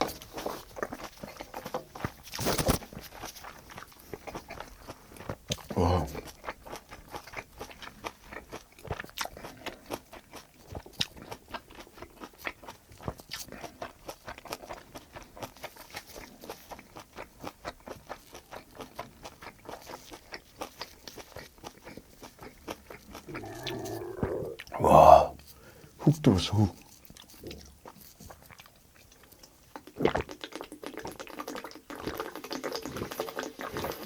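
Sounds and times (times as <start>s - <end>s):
chewing with wet mouth clicks: 0.0s - 24.8s, 26.7s - 34.0s.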